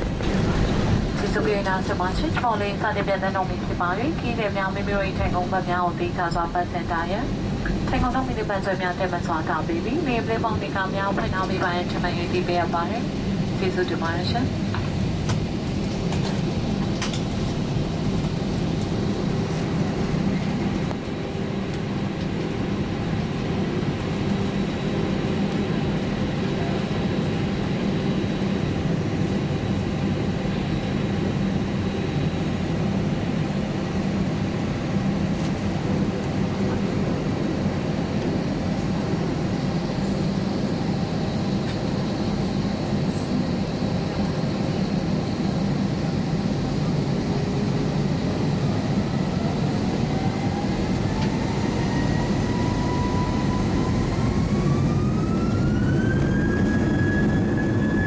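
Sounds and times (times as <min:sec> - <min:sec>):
airplane cabin engine hum: 0:00.0 - 0:58.0.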